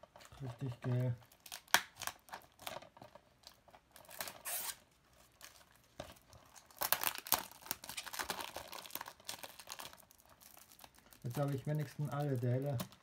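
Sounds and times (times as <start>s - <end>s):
plastic shrink-wrap crinkling: 0.0s - 13.0s.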